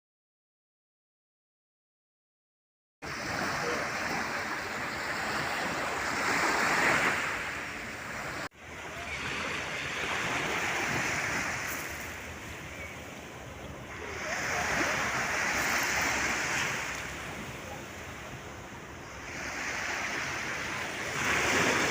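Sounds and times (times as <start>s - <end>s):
surf washing onto a beach: 3.0s - 21.9s.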